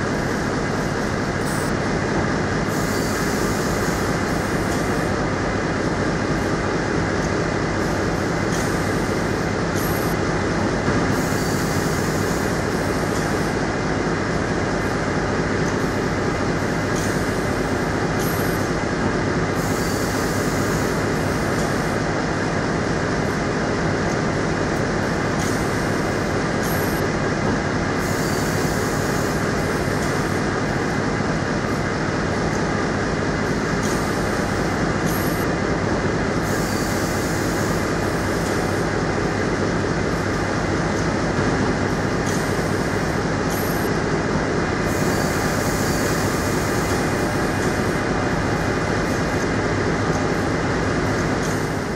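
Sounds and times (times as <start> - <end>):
production line machine din: 0.0 - 51.9.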